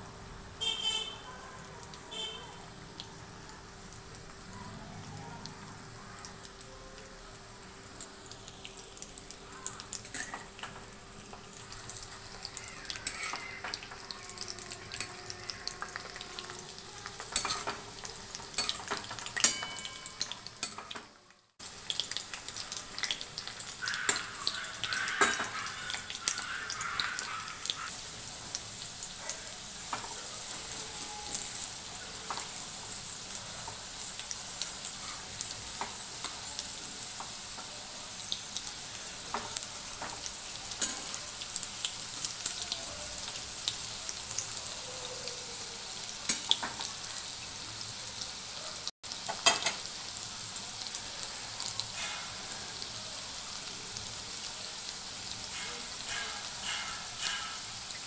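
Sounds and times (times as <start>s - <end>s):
food sizzling in hot oil: 0.0s - 58.0s
oil crackling spatters: 0.6s - 58.0s.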